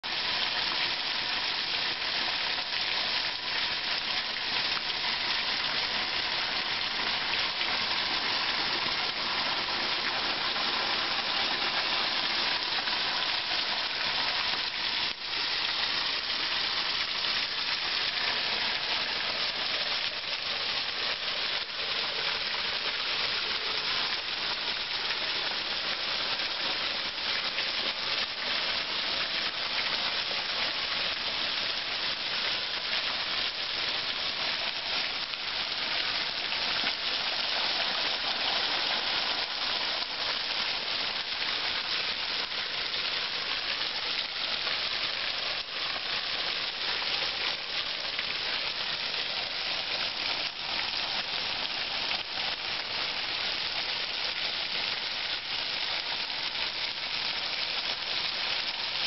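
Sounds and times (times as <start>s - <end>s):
small waterfall splashing on rocks: 0.0s - 59.0s.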